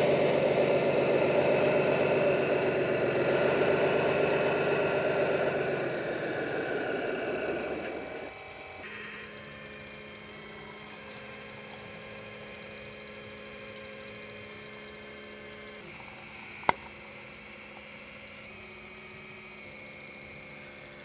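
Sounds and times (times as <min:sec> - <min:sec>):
electric pump humming: 0:00.0 - 0:21.0.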